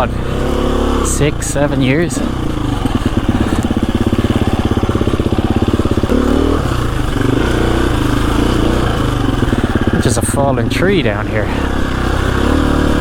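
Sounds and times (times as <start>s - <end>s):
motorcycle engine chugging: 0.0s - 13.0s.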